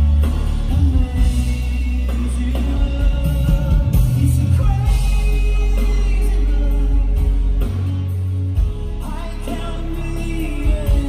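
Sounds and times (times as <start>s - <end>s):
man singing into a microphone: 0.0s - 7.8s, 9.0s - 11.0s
acoustic guitar: 0.0s - 11.0s
drums: 0.0s - 11.0s
heavy bass line: 0.0s - 11.0s.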